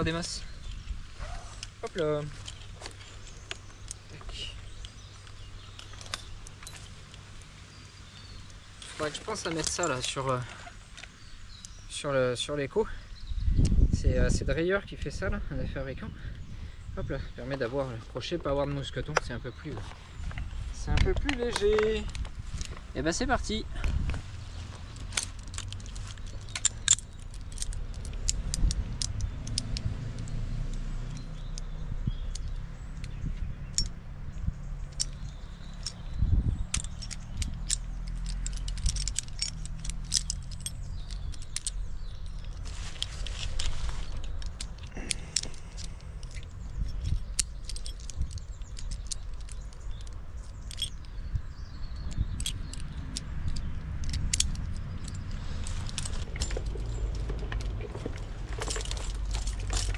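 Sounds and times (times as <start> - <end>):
metal climbing hardware jingling: 0.0 - 12.1, 20.4 - 34.0, 34.7 - 59.9
steady low rumble: 0.0 - 59.9.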